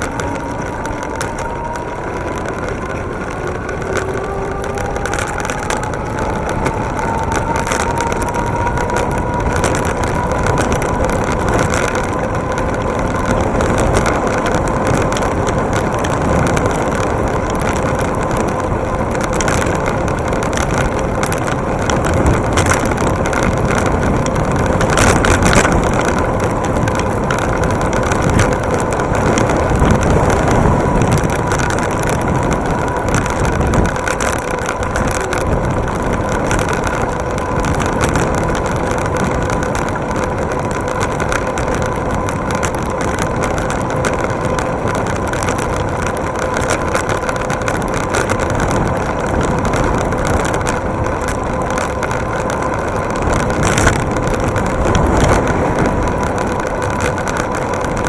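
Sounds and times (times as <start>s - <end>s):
road vibration rattling: 0.0s - 58.0s
wind rushing over microphone: 0.0s - 58.0s.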